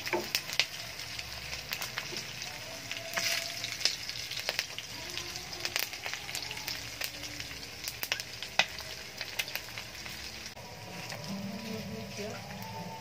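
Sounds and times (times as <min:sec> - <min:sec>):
pork sizzling in a pan: 0:00.0 - 0:13.0.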